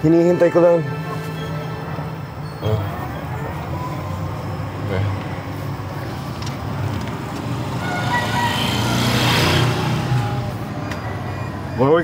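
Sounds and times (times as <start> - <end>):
road noise rushing: 0.0 - 12.0.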